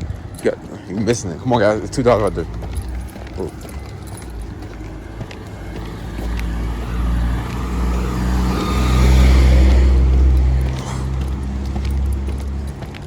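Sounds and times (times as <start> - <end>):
vehicle driving past: 2.0 - 13.0.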